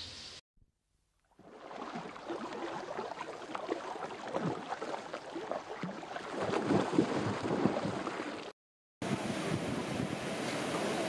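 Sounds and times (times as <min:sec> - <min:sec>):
water splashing and gurgling: 0:01.2 - 0:11.0.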